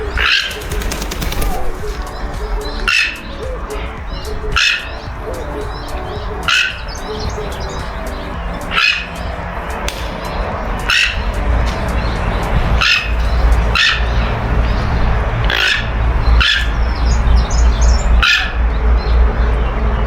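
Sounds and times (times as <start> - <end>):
harsh loud bird calls: 0.0 - 20.0.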